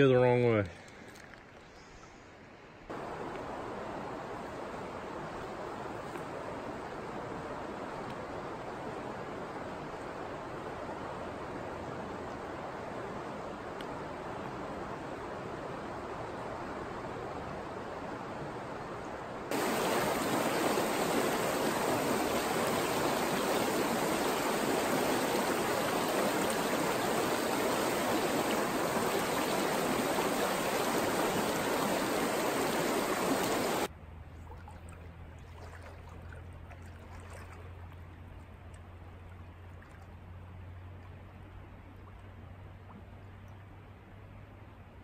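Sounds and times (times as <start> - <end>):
creek running over rocks: 2.9 - 43.2.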